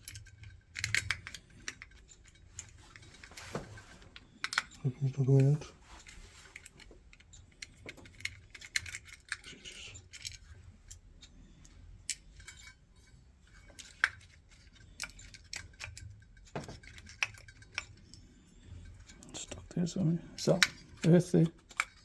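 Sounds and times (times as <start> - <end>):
small clicks and metallic taps: 0.0 - 19.8, 20.4 - 22.0.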